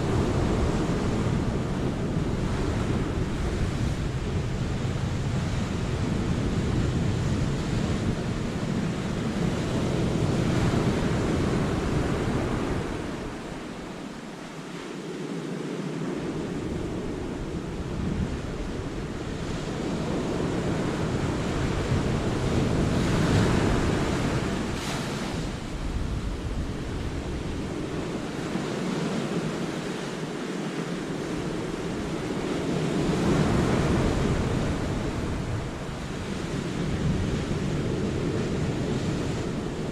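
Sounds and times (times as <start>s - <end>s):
sea waves breaking over rocks: 0.0s - 39.9s
wind rumble on microphone: 0.0s - 39.9s.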